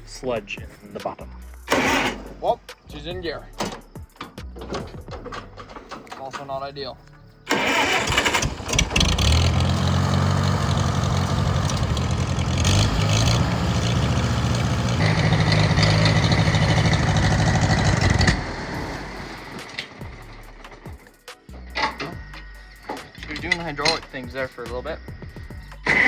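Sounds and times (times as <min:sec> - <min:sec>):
tractor engine starting and running: 0:01.5 - 0:06.9, 0:07.5 - 0:24.6, 0:25.6 - 0:26.0.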